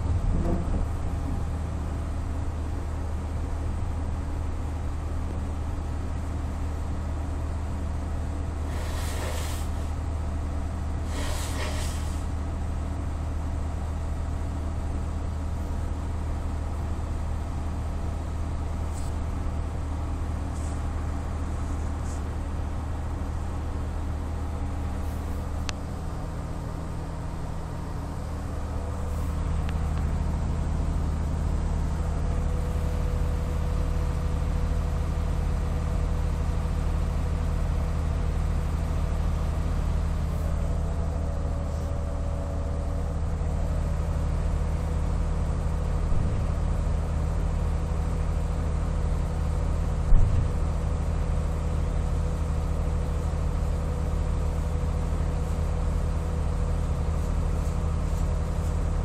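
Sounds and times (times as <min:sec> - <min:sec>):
low mechanical drone: 0:00.0 - 0:59.0.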